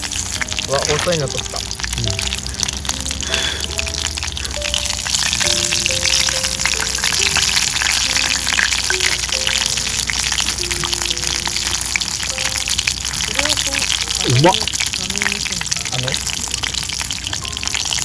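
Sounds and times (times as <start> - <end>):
deep-frying sizzle with pops: 0.0 - 18.0
soft background music: 0.0 - 18.0.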